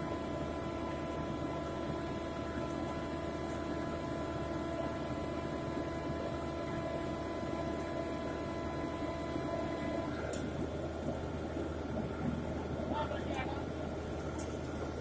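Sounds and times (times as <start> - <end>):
drilling rig engine droning: 0.0 - 15.0.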